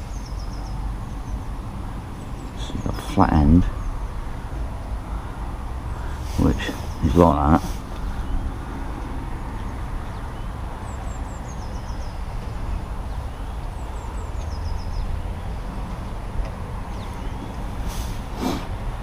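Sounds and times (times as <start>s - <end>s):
songbird singing: 0.0s - 19.0s
steady low rumble: 0.0s - 19.0s.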